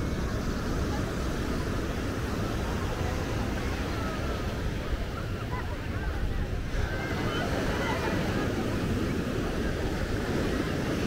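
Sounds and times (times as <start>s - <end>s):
faint distant voices: 0.0s - 11.0s
low rumble of beach ambience: 0.0s - 11.0s.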